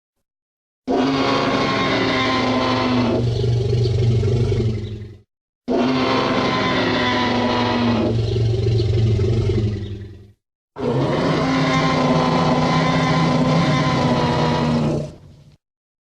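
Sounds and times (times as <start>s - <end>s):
dinosaur roar: 0.9s - 15.3s.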